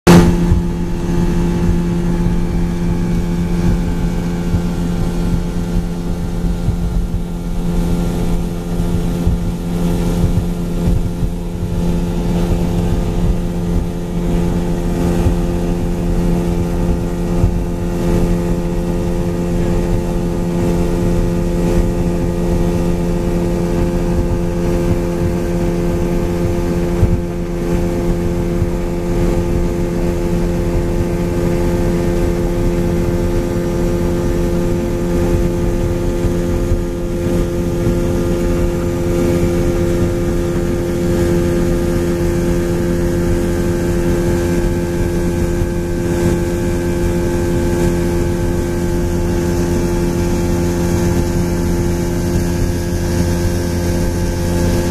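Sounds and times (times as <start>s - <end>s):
boat engine running: 0.0s - 54.9s
wind buffeting microphone: 0.1s - 54.9s.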